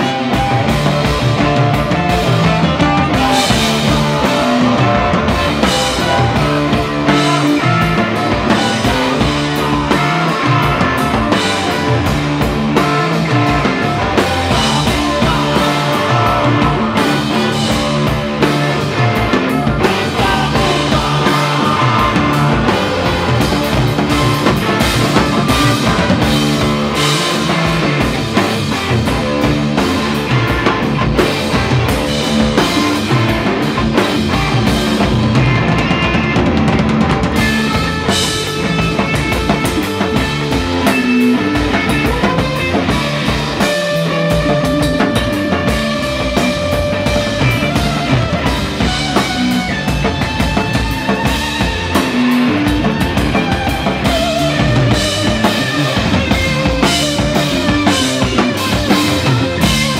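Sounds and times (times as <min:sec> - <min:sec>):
drum kit: 0:00.0 - 0:59.9
electric bass: 0:00.0 - 0:59.9.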